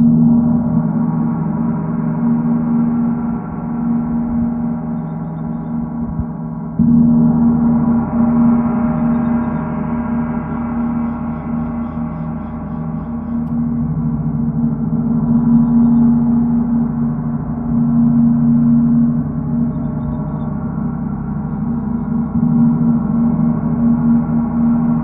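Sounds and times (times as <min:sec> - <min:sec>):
gong ringing: 0:00.0 - 0:25.0.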